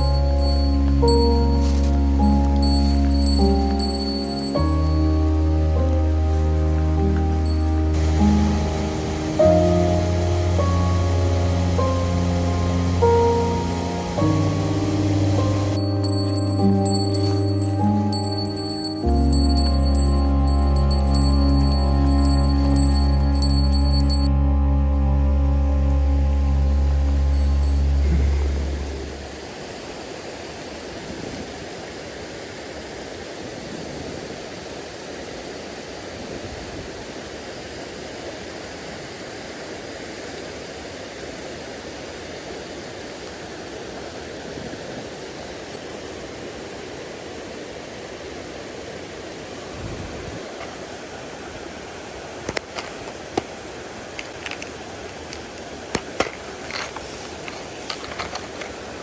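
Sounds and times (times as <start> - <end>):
mountain stream rushing: 0.0 - 24.3, 26.1 - 59.0.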